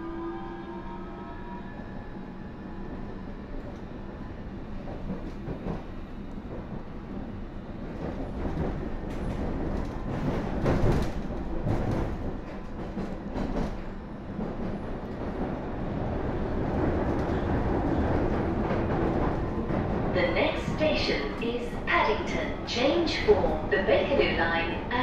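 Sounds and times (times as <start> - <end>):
train wheel and track rumble: 0.0 - 25.0.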